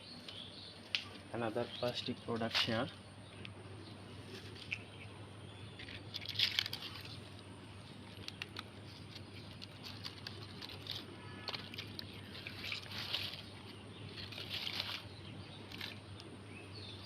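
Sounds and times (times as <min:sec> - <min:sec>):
plastic litter and plants rustling: 0:00.3 - 0:03.0, 0:04.1 - 0:17.0.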